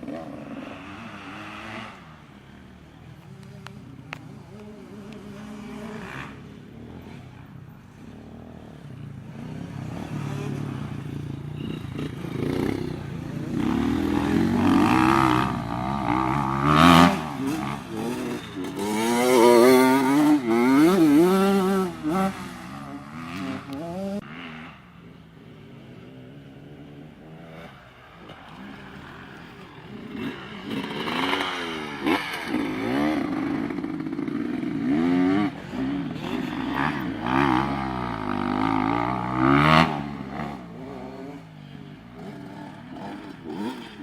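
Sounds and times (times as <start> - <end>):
motocross bikes revving: 0.0 - 44.0.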